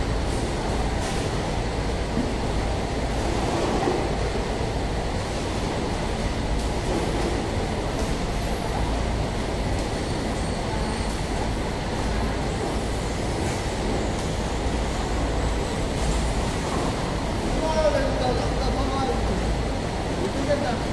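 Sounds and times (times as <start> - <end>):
conveyor machinery rumbling: 0.0 - 20.9.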